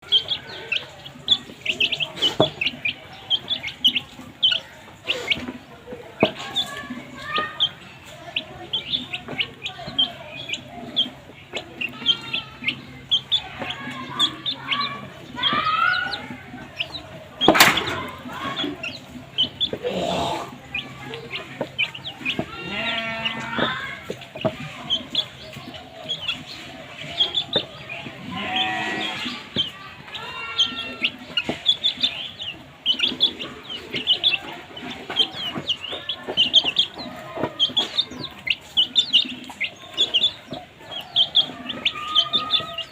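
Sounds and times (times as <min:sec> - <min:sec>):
baby chicks peeping: 0:00.0 - 0:42.9.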